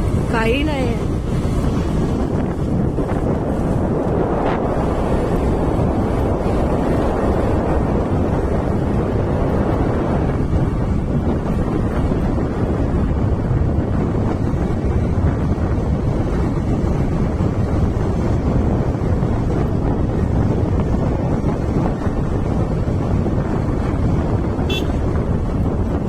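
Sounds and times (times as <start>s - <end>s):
vehicle rumble: 0.0s - 26.0s
wind buffeting microphone: 0.0s - 26.0s.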